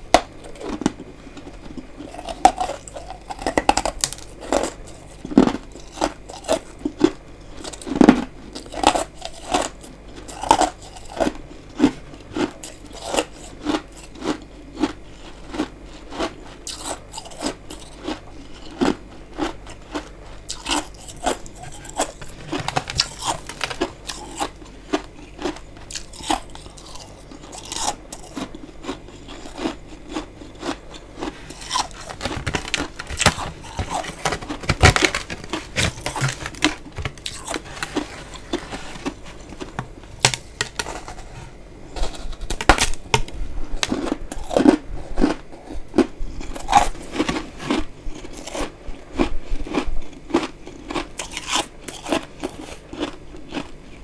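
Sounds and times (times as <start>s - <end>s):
chewing crunchy frost: 0.1s - 54.0s.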